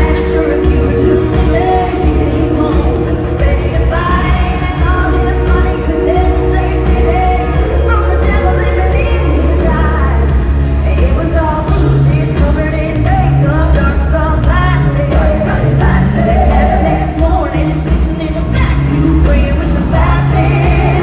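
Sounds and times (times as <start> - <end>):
full band playing: 0.0 - 21.0
heavy bass line: 0.0 - 21.0
woman singing lead: 0.0 - 21.0.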